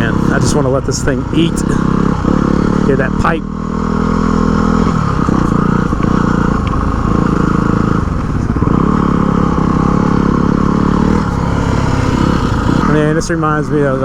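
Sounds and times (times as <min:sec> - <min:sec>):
motorcycle engine at full throttle: 0:00.0 - 0:14.0.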